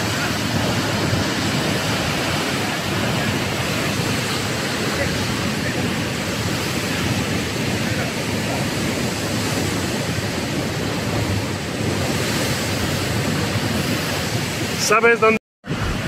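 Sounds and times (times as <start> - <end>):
sea surf: 0.0 - 16.0
wind on microphone: 0.0 - 16.0.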